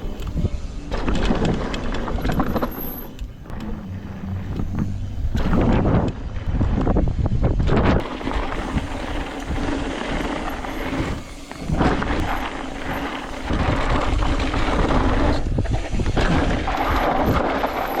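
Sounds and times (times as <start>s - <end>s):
bike rattling over bumps: 0.0s - 18.0s
bike tyres rolling over dirt: 0.0s - 18.0s
wind buffeting microphone: 3.2s - 18.0s.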